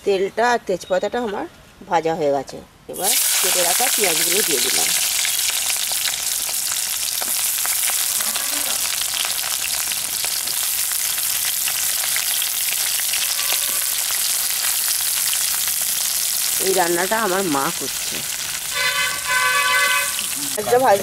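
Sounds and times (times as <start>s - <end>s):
onions sizzling in oil: 2.9s - 21.0s
oil crackling and popping: 3.0s - 20.7s.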